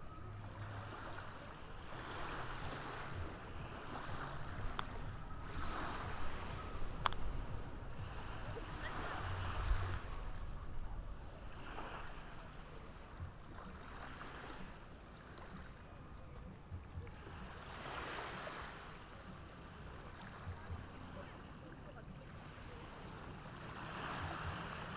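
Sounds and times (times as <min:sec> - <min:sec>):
low rumble of surf: 0:00.0 - 0:24.9
ocean waves washing on shore: 0:00.0 - 0:24.9.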